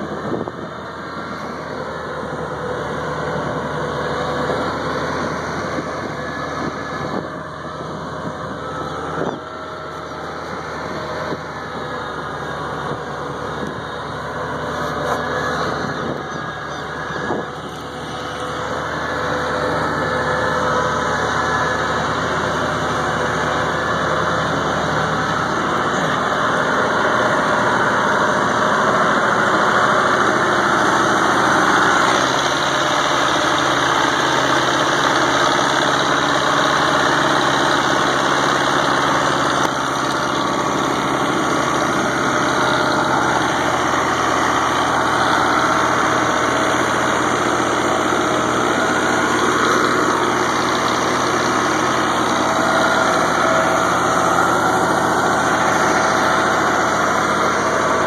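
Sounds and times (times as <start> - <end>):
harvester machinery running: 0.0 - 58.0
tractor diesel engine: 0.0 - 58.0.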